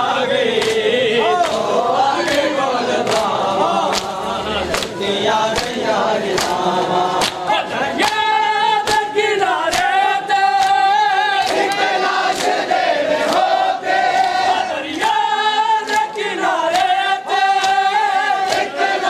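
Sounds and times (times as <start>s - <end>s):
men chanting in chorus: 0.0s - 19.0s
hands slapping chests: 0.5s - 15.2s, 15.8s - 19.0s.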